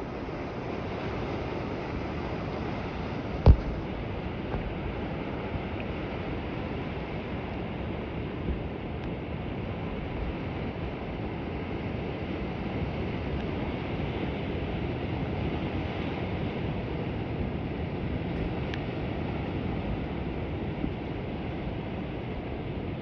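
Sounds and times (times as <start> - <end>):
sea rushing: 0.0 - 23.0.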